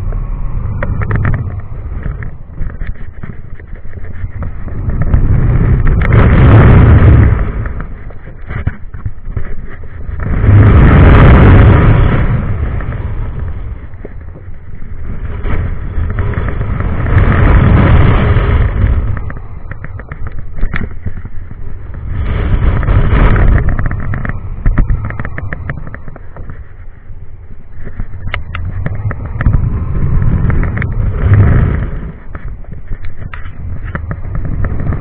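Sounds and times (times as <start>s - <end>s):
clicks and crackles: 0.0s - 35.0s
wind buffeting microphone: 0.0s - 35.0s.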